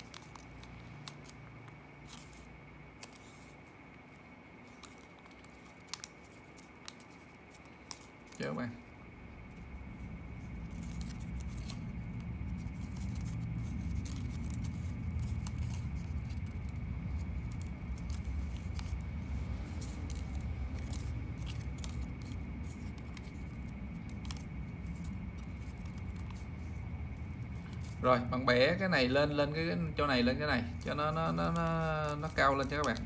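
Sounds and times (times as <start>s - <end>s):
faint high whine: 0.0s - 33.0s
paper bill crackling: 0.0s - 33.0s
steady low hum: 0.0s - 33.0s.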